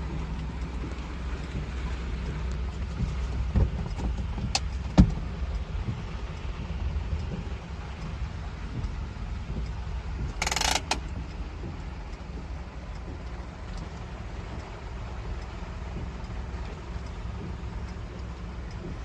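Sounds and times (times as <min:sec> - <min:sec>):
engine and road noise in cabin: 0:00.0 - 0:19.0.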